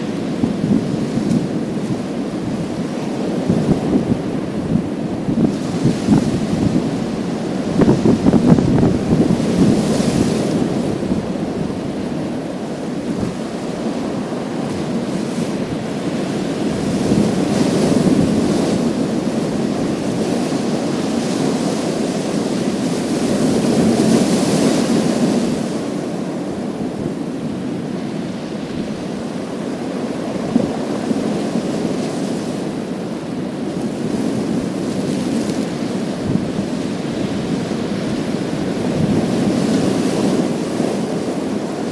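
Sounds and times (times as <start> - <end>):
waves breaking on pebble beach: 0.0 - 41.9.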